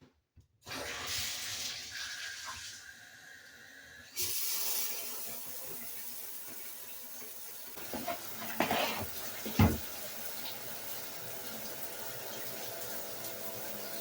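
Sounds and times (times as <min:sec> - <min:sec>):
water running: 0:00.6 - 0:14.0.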